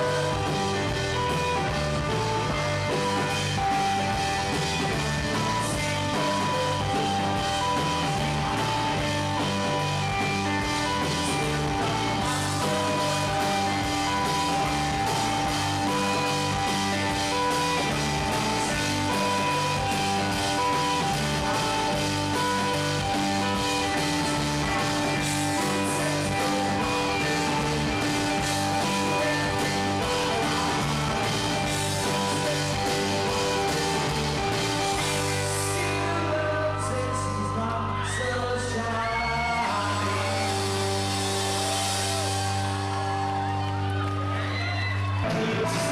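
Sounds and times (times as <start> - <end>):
drum kit beat: 0.0 - 36.3, 39.6 - 44.3
electric guitar: 0.0 - 45.9.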